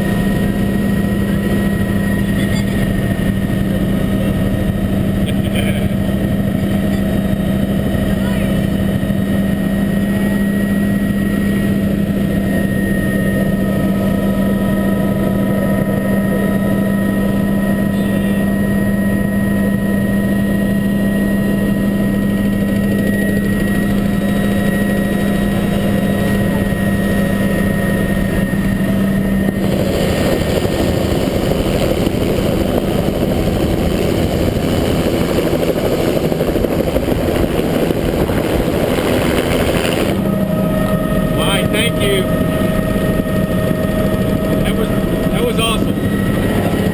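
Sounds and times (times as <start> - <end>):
helicopter cabin drone: 0.0 - 46.9
high whine: 0.0 - 46.9.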